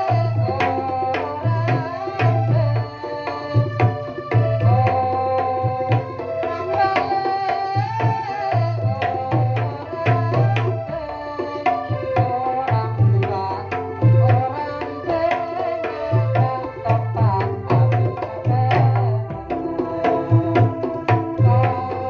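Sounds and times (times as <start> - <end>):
rapid hand drum strokes: 0.0 - 22.0.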